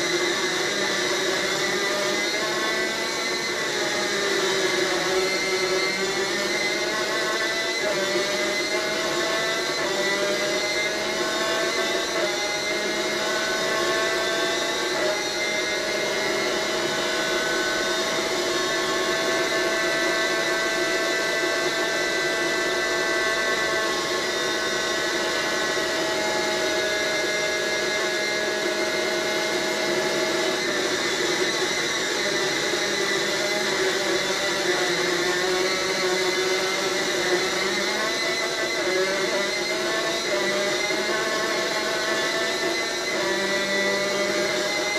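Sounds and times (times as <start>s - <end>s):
kart engine at high revs: 0.0s - 44.9s.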